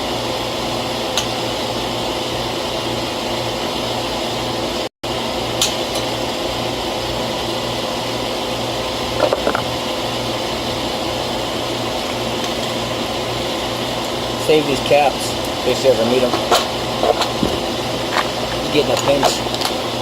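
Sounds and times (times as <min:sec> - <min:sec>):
machine drone with pulsing hum: 0:00.0 - 0:20.0.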